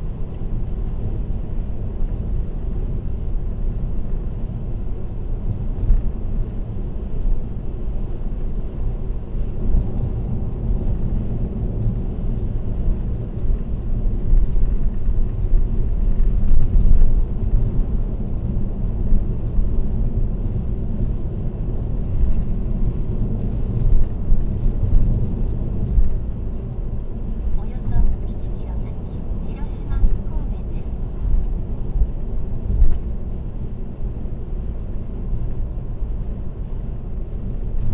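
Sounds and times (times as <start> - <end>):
road and tyre noise: 0.0 - 37.9
light rattles: 0.3 - 37.9.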